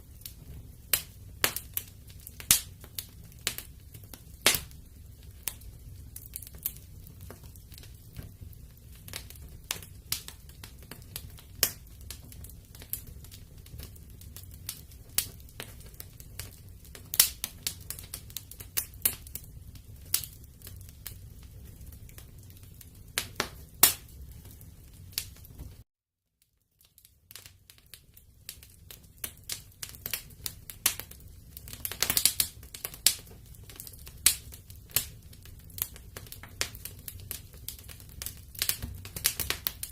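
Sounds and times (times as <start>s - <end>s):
low rumble of flames: 0.0s - 25.8s, 27.0s - 39.9s
wood fire crackling and popping: 0.0s - 25.8s, 26.4s - 39.9s.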